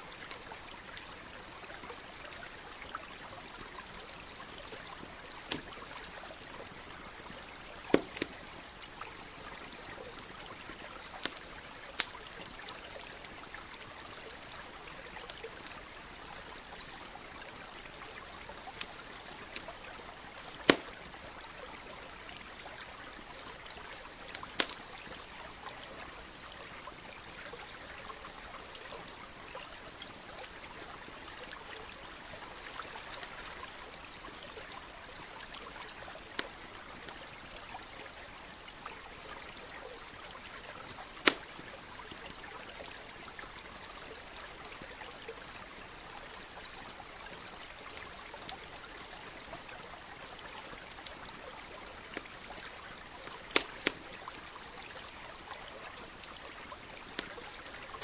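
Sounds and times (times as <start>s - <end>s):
campfire crackling and popping: 0.0s - 58.0s
running stream: 0.0s - 58.0s.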